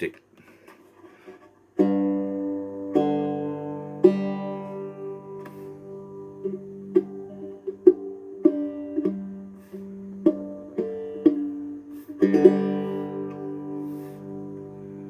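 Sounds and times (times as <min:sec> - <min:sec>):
resonator guitar playing: 0:01.8 - 0:15.0.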